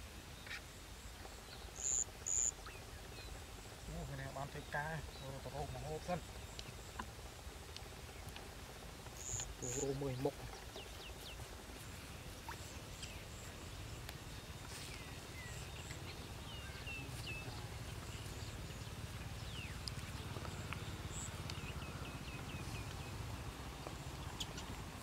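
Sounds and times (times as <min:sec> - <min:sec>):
small birds chirping: 0:00.3 - 0:25.0
steady low rumble: 0:01.6 - 0:25.0.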